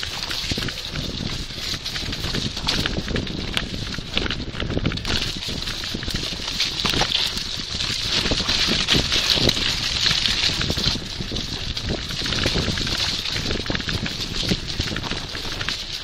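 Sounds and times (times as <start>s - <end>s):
bicycle rattling over rough trail: 0.0s - 16.0s
wind rushing over microphone: 0.0s - 16.0s.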